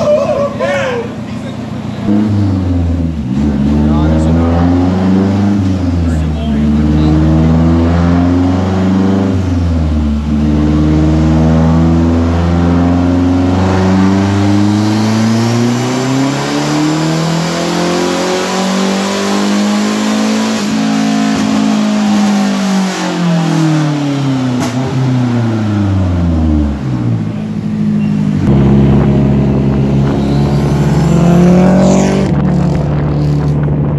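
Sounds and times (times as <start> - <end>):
loud car engine revving: 0.0 - 33.9.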